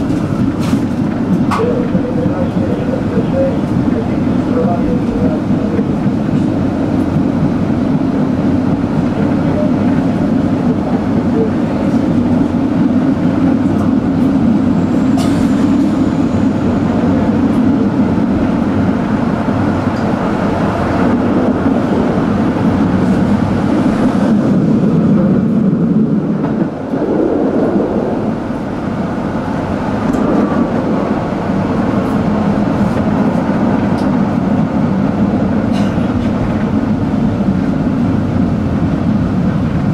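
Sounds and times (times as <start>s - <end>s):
tram rumbling along rails: 0.0s - 39.9s.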